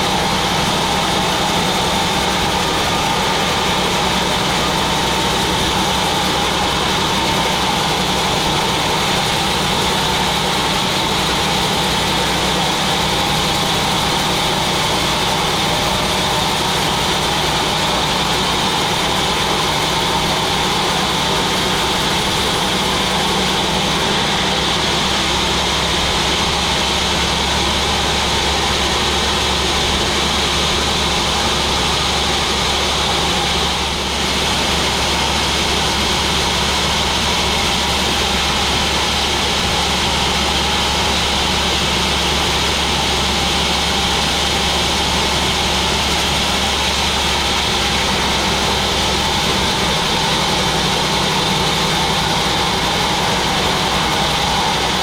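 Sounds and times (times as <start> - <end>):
sawmill machine drone: 0.0 - 55.0.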